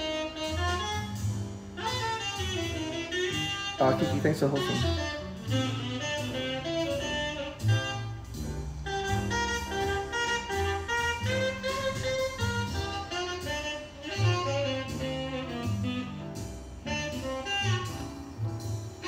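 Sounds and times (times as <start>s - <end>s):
jazz music: 0.0s - 19.0s.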